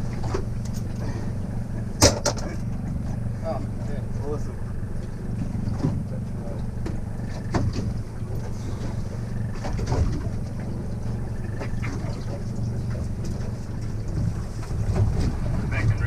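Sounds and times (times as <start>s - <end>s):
boat engine humming: 0.0s - 16.0s
water noise: 0.0s - 16.0s
water splashes: 0.0s - 16.0s
wind: 0.0s - 16.0s.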